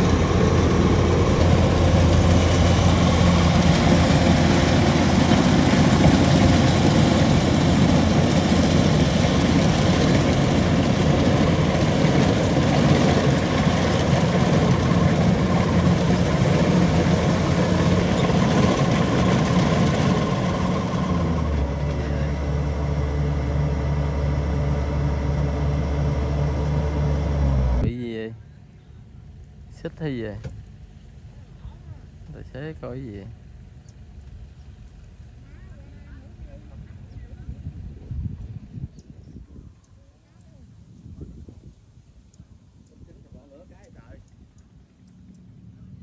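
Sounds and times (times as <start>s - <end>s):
combine harvester engine running: 0.0s - 38.8s.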